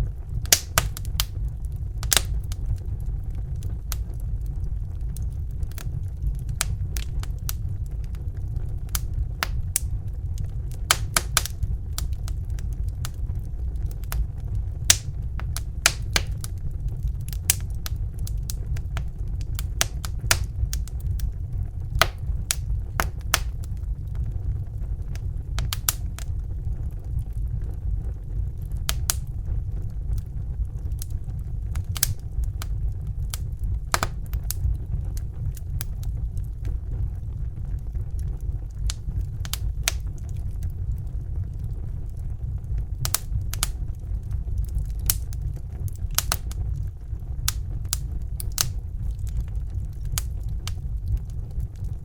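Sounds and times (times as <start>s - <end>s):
fire crackling: 0.0s - 52.0s.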